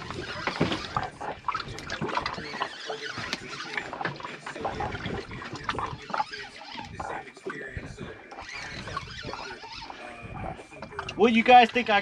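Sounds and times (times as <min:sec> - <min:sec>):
water sloshing against boat hull: 0:00.0 - 0:12.0.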